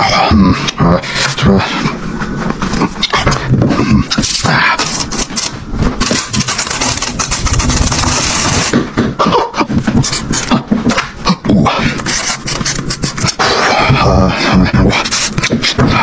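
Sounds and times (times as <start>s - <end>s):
beatboxing mouth noises: 2.7s - 16.0s.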